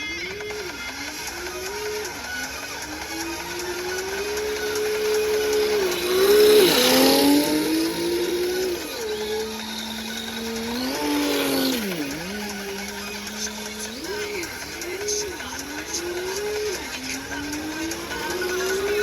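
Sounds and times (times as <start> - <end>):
simulated car engine sound: 0.0 - 19.0
loud hiss of tyres sliding: 1.1 - 19.0.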